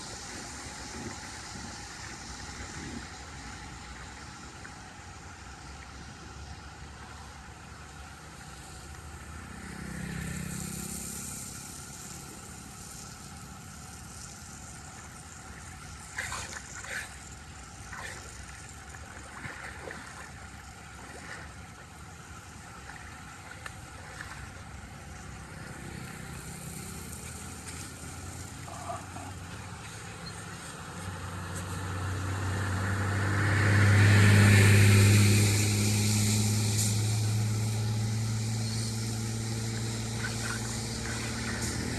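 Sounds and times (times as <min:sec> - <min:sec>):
engine hum: 0:00.0 - 0:41.9
water rushing: 0:00.0 - 0:41.9.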